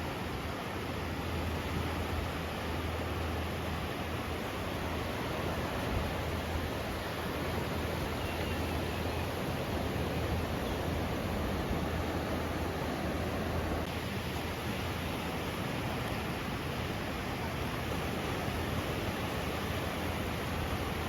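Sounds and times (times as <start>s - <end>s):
surf: 0.0s - 21.0s.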